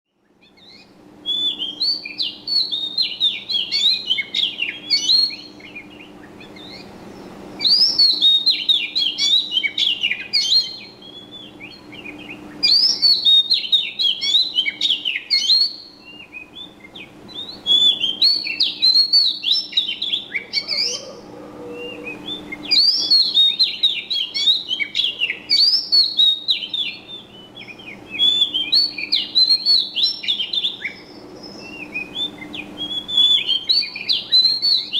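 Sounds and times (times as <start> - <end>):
faint low hum: 0.1 - 34.9
bird twittering: 0.2 - 34.9.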